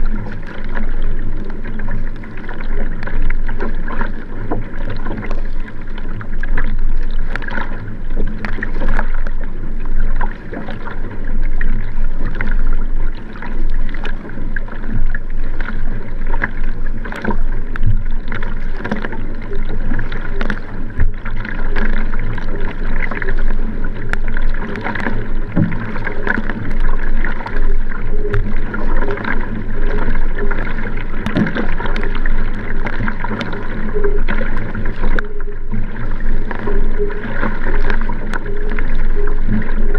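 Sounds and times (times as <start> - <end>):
paddle strokes splashing: 0.0 - 39.9
water rushing along kayak hull: 0.0 - 39.9.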